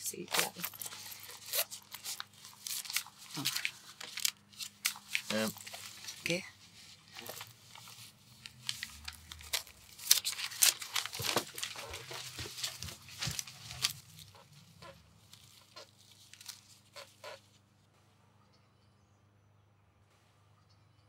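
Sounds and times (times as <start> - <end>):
paper rustling and crinkling: 0.0 - 17.6.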